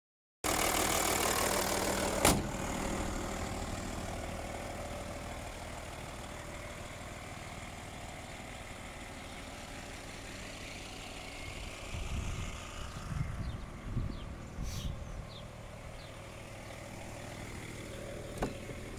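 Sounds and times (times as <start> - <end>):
diesel engine idling: 0.4 - 18.9.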